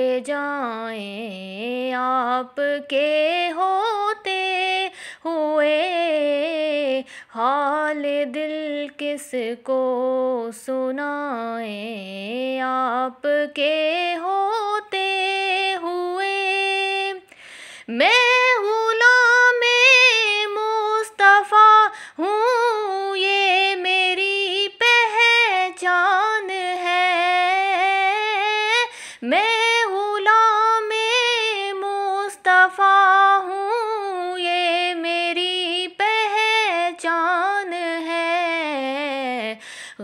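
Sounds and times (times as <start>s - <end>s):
woman singing unaccompanied: 0.0s - 40.0s.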